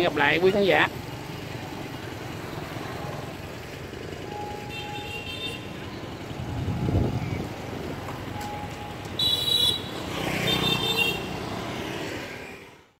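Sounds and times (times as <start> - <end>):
passing road traffic rumble: 0.0 - 12.9.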